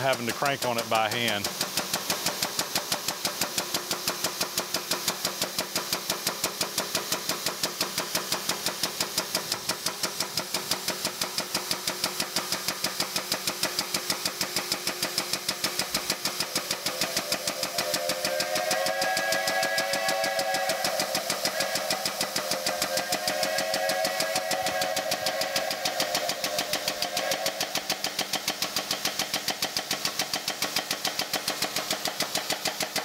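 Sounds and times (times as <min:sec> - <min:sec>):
hydraulic jack pumping chatter: 0:00.0 - 0:19.5, 0:20.2 - 0:33.0.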